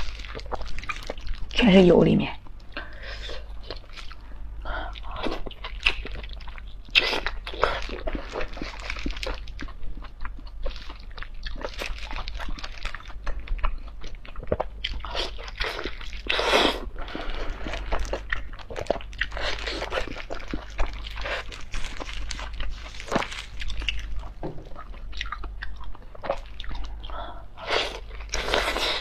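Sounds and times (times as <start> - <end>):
wet chewing and smacking: 0.0 - 1.6, 3.4 - 27.2.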